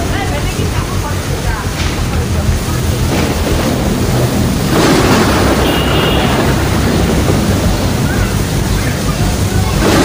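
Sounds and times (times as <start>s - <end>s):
heavy rain: 0.0s - 10.0s
storm wind: 0.0s - 10.0s.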